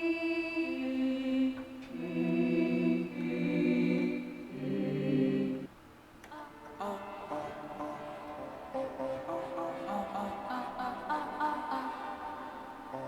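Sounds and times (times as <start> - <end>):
synthesized choir chords: 0.0 - 13.0.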